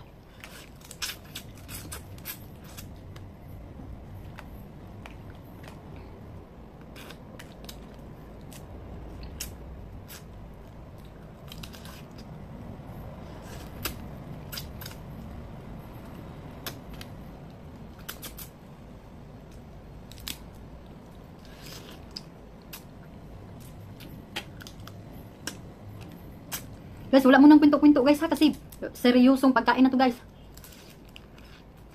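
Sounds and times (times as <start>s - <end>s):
steady low rumble: 0.0s - 31.9s.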